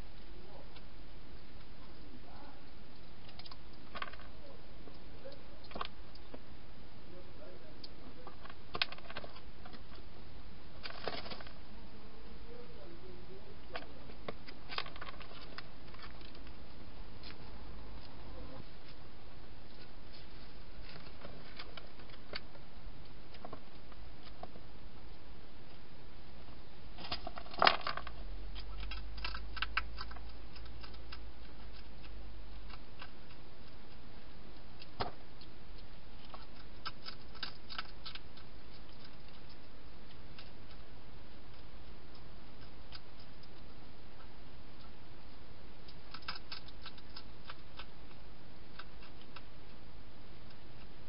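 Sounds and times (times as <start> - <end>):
hedgehog eating clicks and crunches: 0.1 - 6.4, 7.8 - 10.1, 13.7 - 16.6, 19.6 - 25.8, 27.0 - 51.0.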